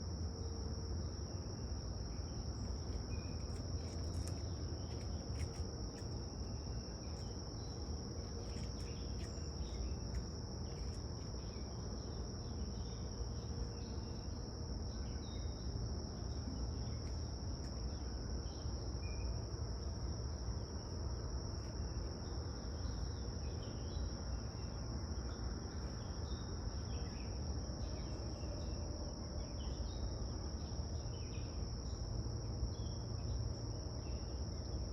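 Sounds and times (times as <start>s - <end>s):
high-pitched insect chorus: 0.0s - 34.9s.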